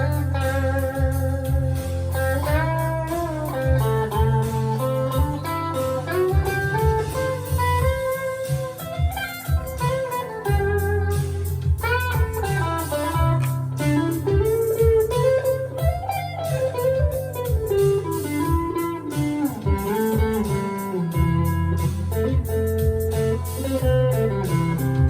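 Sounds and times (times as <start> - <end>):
electric guitar lead with bends: 0.0 - 25.0.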